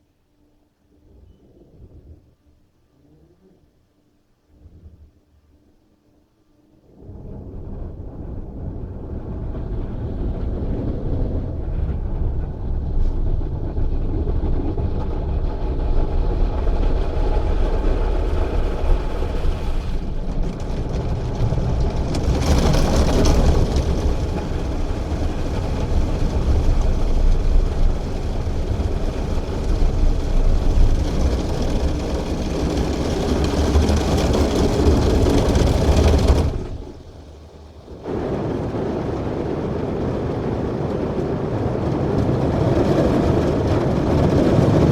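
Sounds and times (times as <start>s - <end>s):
car wash machinery and spray: 7.0s - 44.9s.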